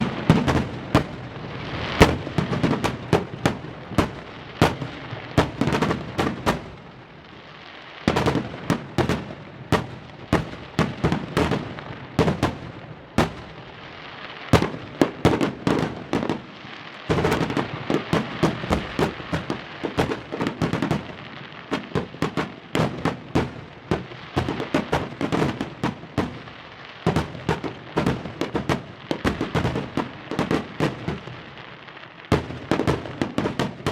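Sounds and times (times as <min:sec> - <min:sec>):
fireworks bangs and cracks: 0:00.0 - 0:33.9.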